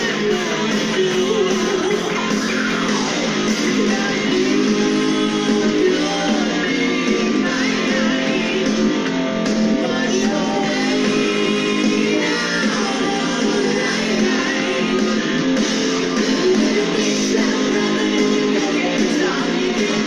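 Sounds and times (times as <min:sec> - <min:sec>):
person singing: 0:00.0 - 0:15.4, 0:16.0 - 0:20.0.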